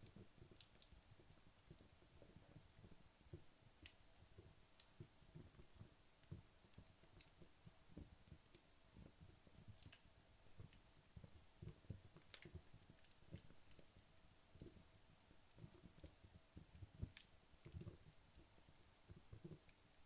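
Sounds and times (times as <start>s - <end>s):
logs crackling in a fireplace: 0.0s - 20.0s
soft hiss: 0.0s - 20.0s.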